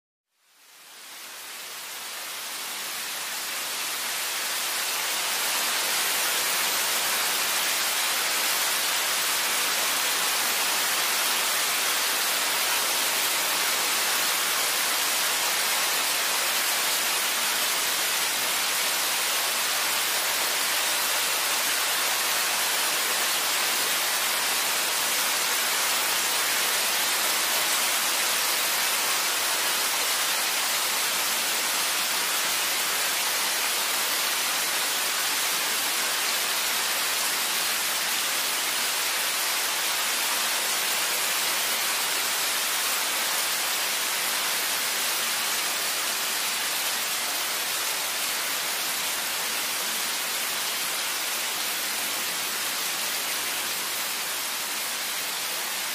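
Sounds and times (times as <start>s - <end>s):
steady rain hissing: 0.3s - 55.9s.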